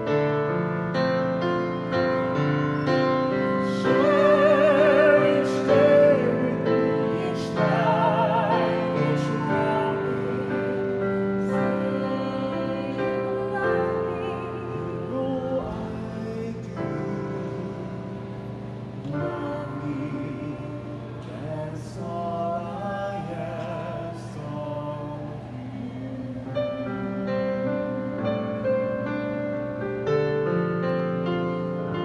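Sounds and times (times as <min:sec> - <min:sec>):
digital piano accompaniment: 0:00.0 - 0:32.0
operatic duet singing: 0:02.8 - 0:28.8.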